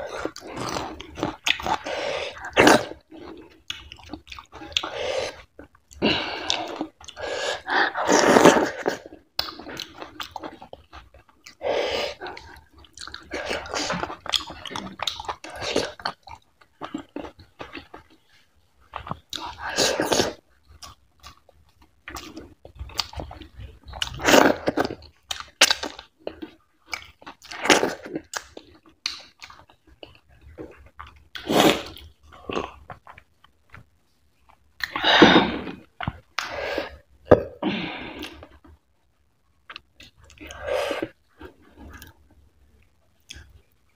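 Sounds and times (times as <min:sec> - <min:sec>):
person chewing: 0:00.0 - 0:38.8, 0:39.6 - 0:42.4, 0:43.2 - 0:43.8.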